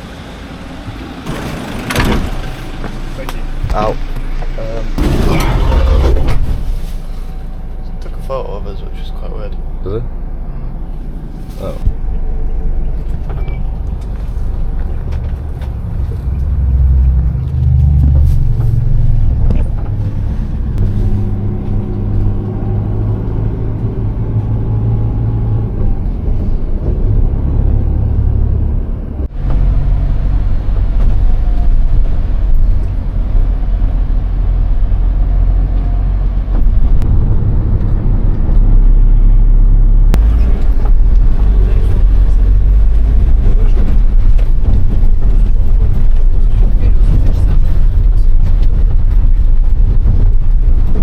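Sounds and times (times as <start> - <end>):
vehicle engine and road rumble: 0.0 - 51.0.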